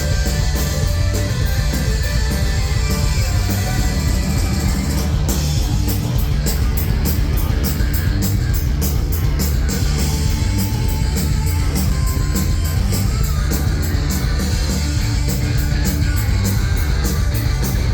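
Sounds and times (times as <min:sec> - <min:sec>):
drum kit beat: 0:00.0 - 0:17.9
electric guitar: 0:00.0 - 0:17.9.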